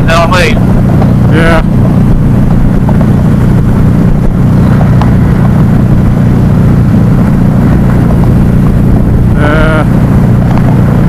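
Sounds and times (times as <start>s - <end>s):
motorcycle engine drone: 0.0s - 11.0s
wind noise rushing: 0.0s - 11.0s.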